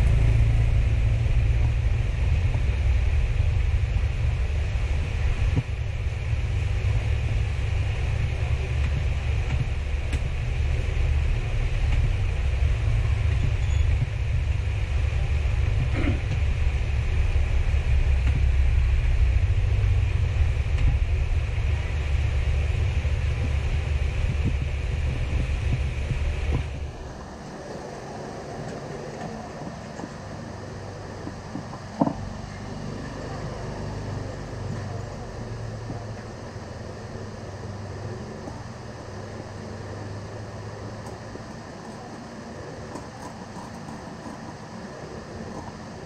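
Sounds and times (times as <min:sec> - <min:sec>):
low background rumble: 0:00.0 - 0:46.0.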